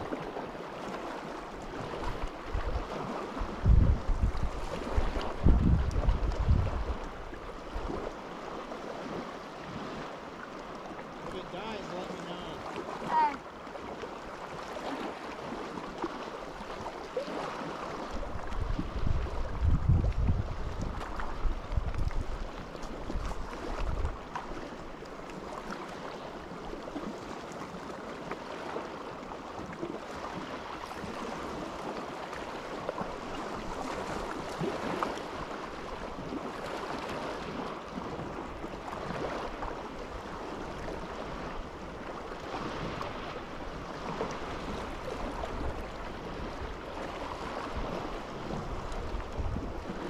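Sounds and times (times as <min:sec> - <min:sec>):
wind rumble on microphone: 0:00.0 - 0:10.2, 0:12.4 - 0:50.0
water lapping: 0:00.0 - 0:50.0
wind: 0:00.0 - 0:50.0.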